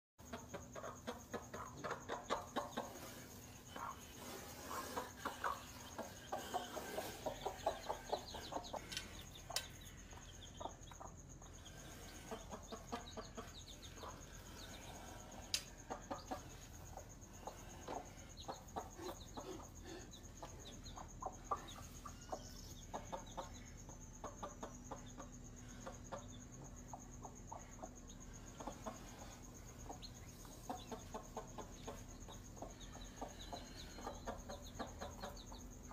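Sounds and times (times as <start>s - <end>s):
chicks cheeping: 0.2s - 35.9s
hen clucking: 0.2s - 35.9s.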